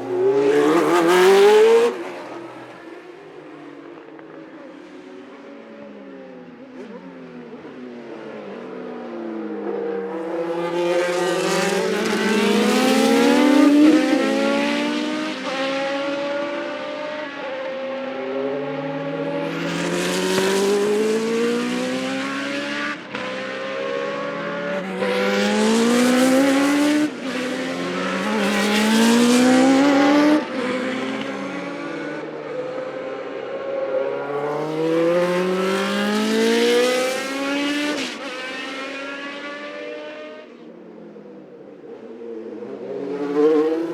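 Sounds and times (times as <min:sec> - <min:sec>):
racing car engines accelerating: 0:00.0 - 0:03.1, 0:06.5 - 0:40.6, 0:42.4 - 0:43.9.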